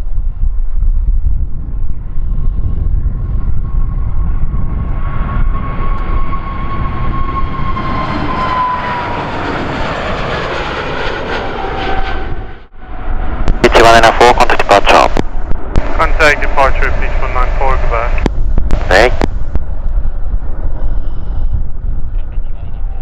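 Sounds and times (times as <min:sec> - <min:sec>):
wind rumbling on microphone: 0:00.0 - 0:23.0
aircraft engine whine passing: 0:03.2 - 0:23.0.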